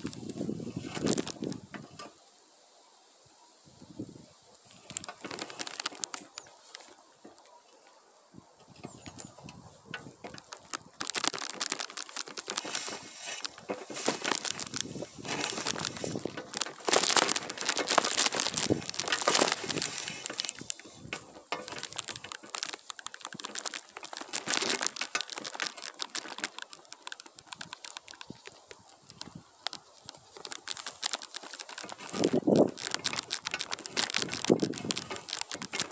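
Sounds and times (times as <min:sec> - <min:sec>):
pine branches rustling and crackling: 0:00.0 - 0:35.9.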